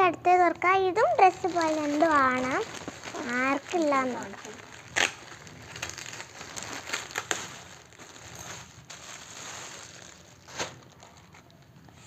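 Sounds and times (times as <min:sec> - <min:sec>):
packaging crinkling and rustling: 0:01.0 - 0:12.0.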